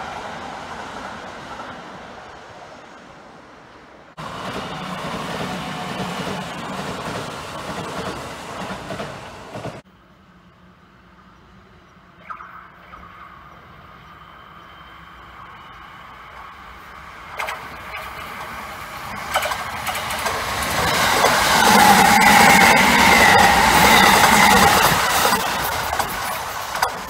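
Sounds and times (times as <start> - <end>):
electric train rumbling past: 0.0 - 27.0.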